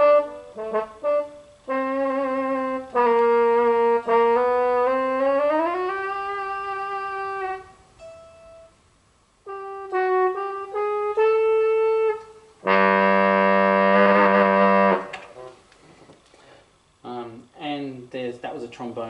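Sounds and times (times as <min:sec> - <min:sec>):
synthesized trombone guitar notes: 0:00.0 - 0:15.6.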